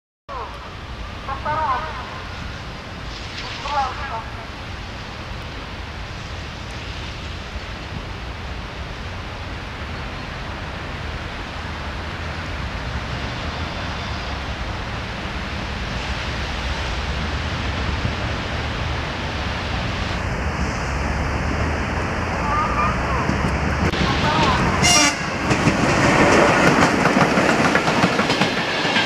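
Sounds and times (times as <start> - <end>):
train low rumbling: 0.3 - 29.0.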